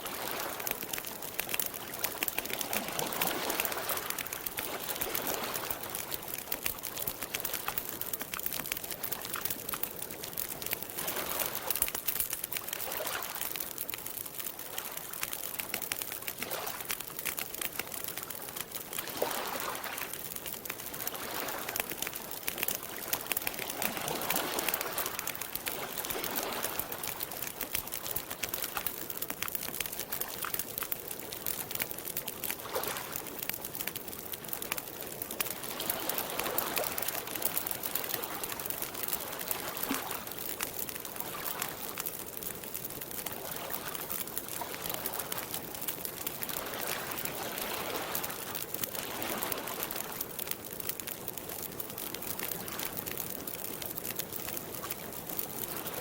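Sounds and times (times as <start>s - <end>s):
campfire crackling: 0.0s - 56.0s
waves lapping at shore: 0.0s - 56.0s.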